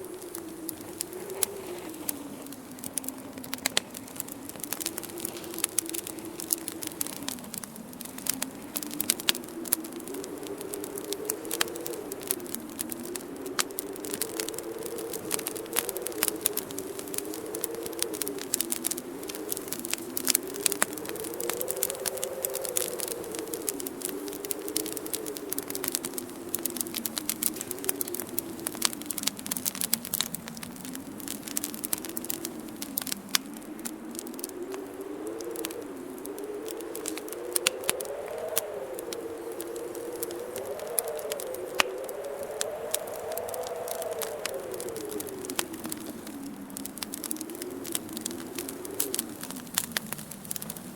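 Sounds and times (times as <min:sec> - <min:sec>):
wind blowing: 0:00.0 - 0:50.9
wood fire crackling and popping: 0:00.0 - 0:50.9.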